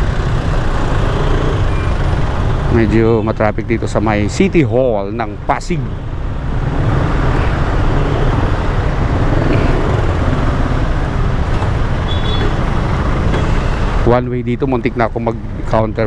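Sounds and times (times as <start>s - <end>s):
surrounding traffic noise: 0.0s - 16.0s.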